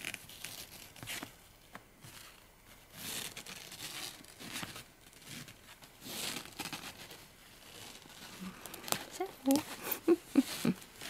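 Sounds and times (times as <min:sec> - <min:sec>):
fabric rustling and crinkling: 0:00.0 - 0:11.0.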